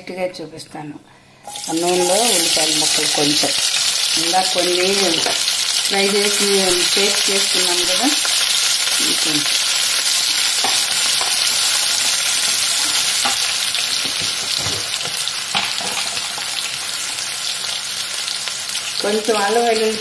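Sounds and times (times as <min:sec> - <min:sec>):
hot oil sizzling in pan: 0:01.5 - 0:20.0.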